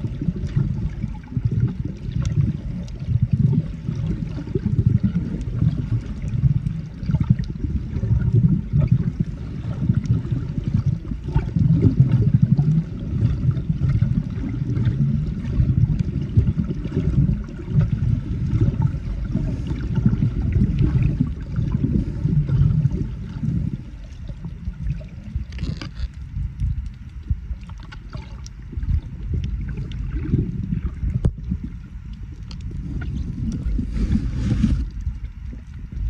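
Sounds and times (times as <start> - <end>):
muffled underwater water rushing: 0.0 - 36.0.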